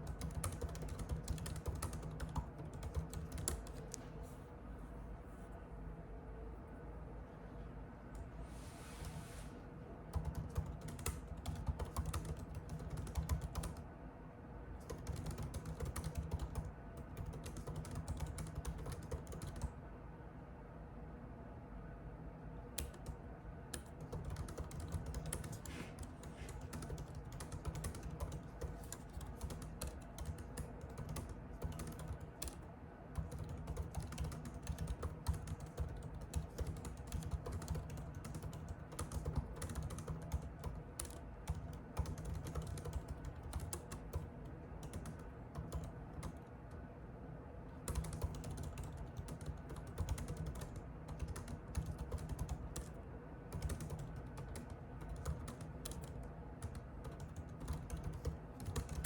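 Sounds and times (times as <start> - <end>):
computer keyboard typing: 0.0 - 4.0, 10.1 - 13.8, 14.8 - 19.7, 22.8 - 46.8, 47.8 - 59.0
low steady hum: 0.0 - 59.0.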